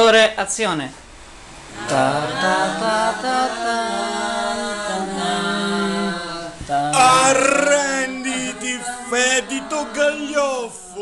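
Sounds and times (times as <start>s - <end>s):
man singing unaccompanied: 1.8s - 11.0s.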